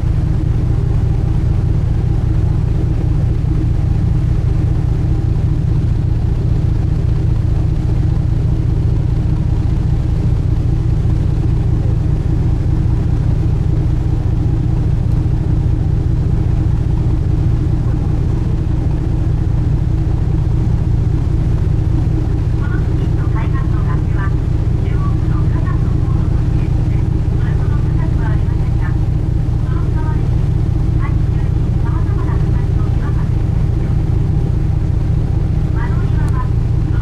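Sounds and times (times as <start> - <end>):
boat engines droning: 0.0 - 37.0.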